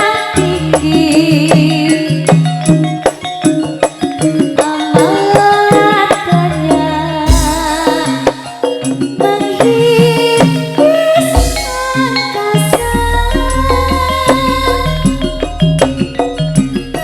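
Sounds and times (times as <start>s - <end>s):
live percussion ensemble music: 0.0s - 17.0s.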